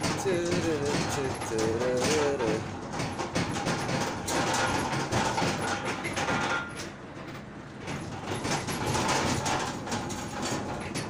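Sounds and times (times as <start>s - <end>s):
rattles and knocks: 0.0s - 11.0s
road noise: 0.0s - 11.0s.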